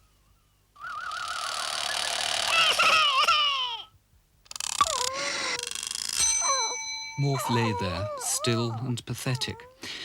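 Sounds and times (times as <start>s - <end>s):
squeaky squawking cries: 0.8s - 3.9s, 4.8s - 9.8s.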